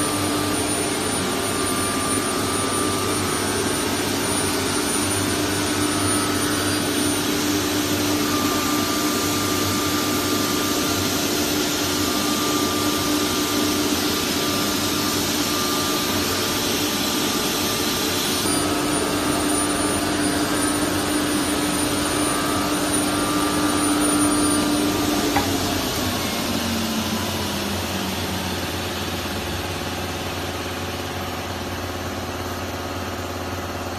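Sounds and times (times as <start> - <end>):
cnc router cutting board: 0.0 - 33.9.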